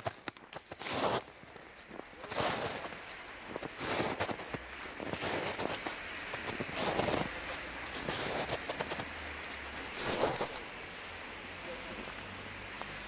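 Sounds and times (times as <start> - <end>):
footsteps crunching in snow: 0.0 - 13.0.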